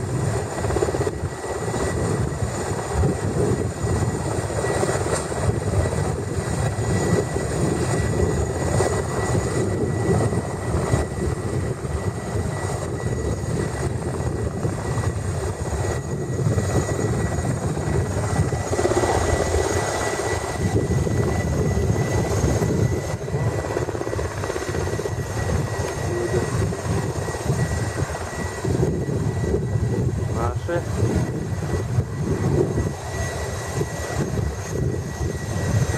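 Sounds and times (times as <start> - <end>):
helicopter rotor and engine: 0.0 - 35.9
high whine: 0.2 - 35.9.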